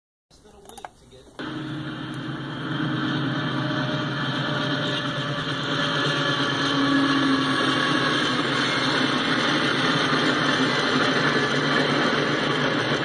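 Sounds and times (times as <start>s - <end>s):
diesel locomotive engine drone: 1.4s - 13.0s.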